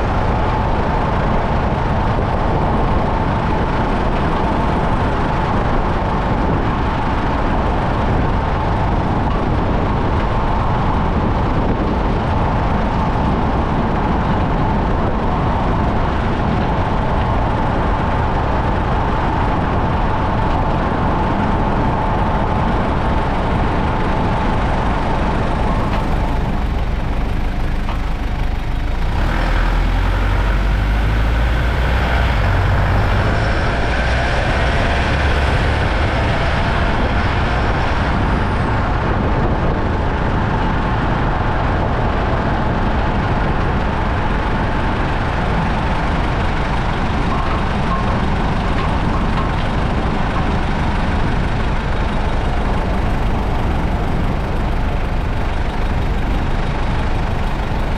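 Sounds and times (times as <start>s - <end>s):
car road and running noise: 0.0s - 57.9s.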